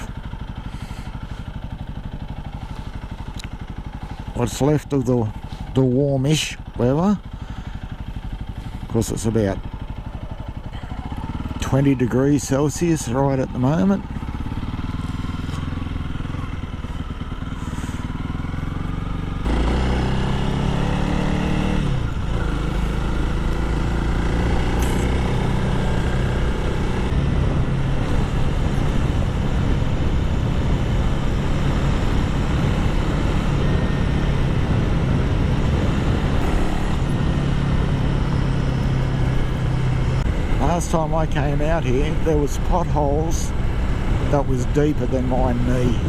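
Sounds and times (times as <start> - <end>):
motorcycle engine running: 0.0 - 46.0
wind and tyre noise: 0.0 - 46.0.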